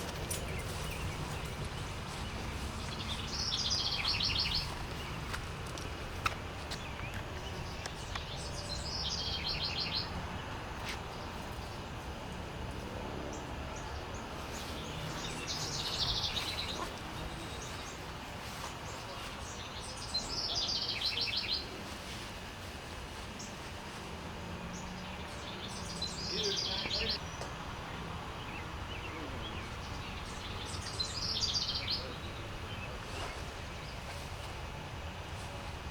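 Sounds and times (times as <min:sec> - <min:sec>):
songbird singing: 0:00.0 - 0:22.3, 0:23.2 - 0:35.9
low outdoor background noise: 0:00.0 - 0:35.9.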